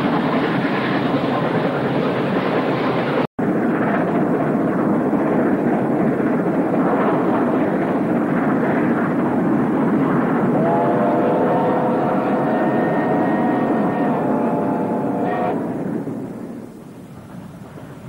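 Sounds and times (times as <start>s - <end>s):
steam locomotive exhaust: 0.0s - 18.0s.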